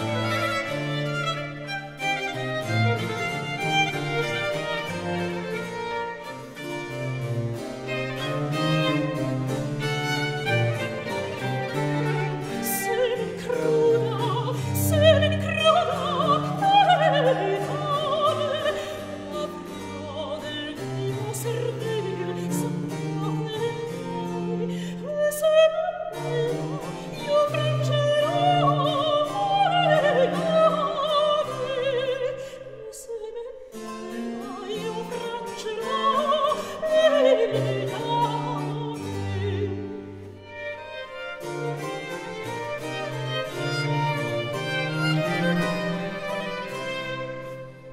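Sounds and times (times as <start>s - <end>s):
operatic classical music: 0.0s - 47.9s.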